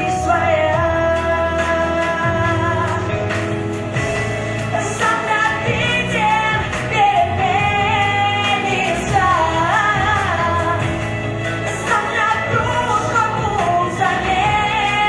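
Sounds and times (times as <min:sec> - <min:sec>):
woman singing gospel: 0:00.0 - 0:03.5, 0:04.7 - 0:15.0
band accompaniment: 0:00.0 - 0:15.0.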